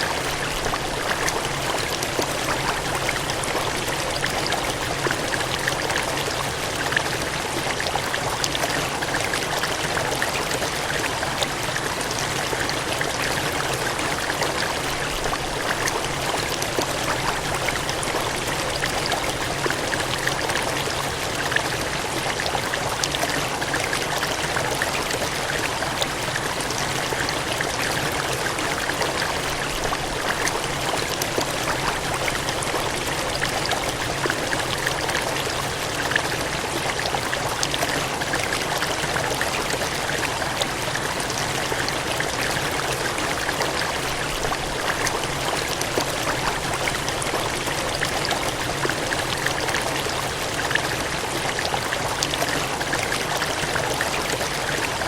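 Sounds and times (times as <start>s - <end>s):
water gushing and splashing: 0.0s - 55.0s.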